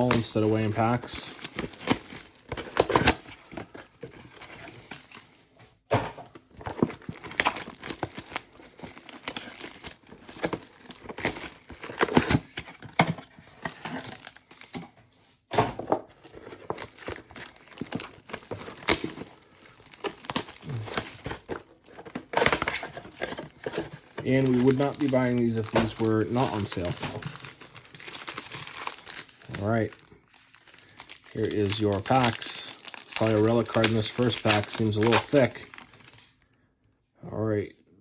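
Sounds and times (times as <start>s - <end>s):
wrapping crinkling and tearing: 0.0s - 5.4s, 6.5s - 14.7s, 16.2s - 36.5s.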